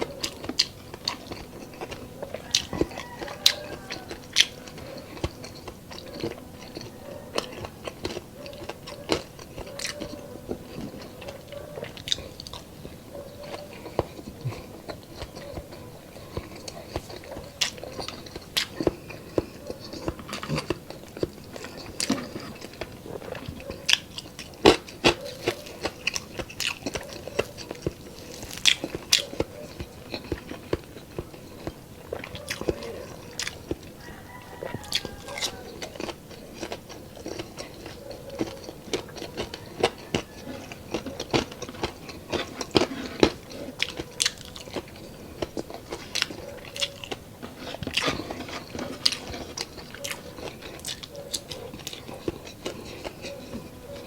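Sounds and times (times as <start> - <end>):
person chewing crispy food: 0.0 - 54.0.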